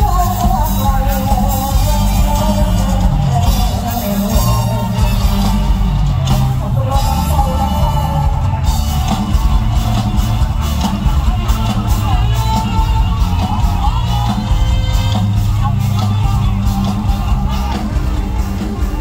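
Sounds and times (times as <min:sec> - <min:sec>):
upbeat live band music with bass: 0:00.0 - 0:19.0.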